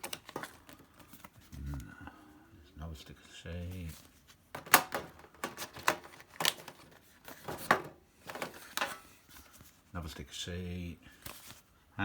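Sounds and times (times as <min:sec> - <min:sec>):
paper and plastic rustling: 0:00.0 - 0:01.8, 0:03.4 - 0:11.8.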